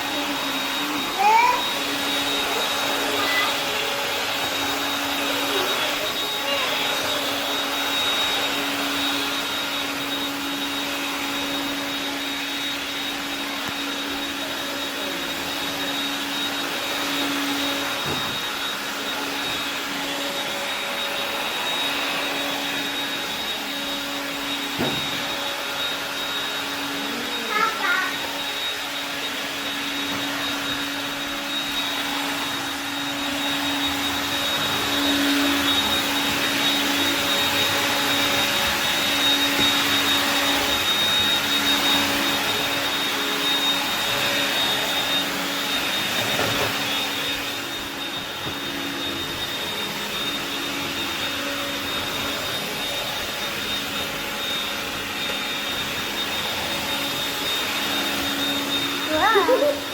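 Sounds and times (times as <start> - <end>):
cordless vacuum cleaner running: 0.0 - 59.9.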